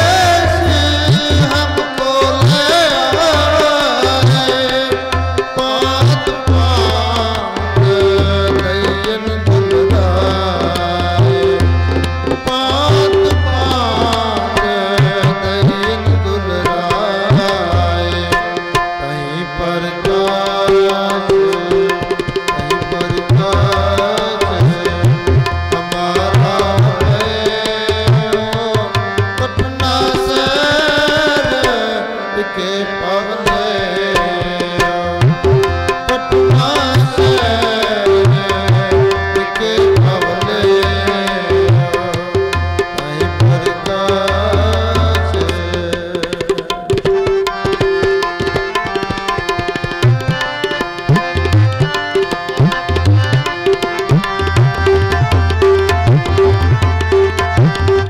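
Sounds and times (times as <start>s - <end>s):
harmoniums playing melody: 0.0s - 58.0s
person singing: 0.0s - 58.0s
tabla beat: 0.0s - 58.0s.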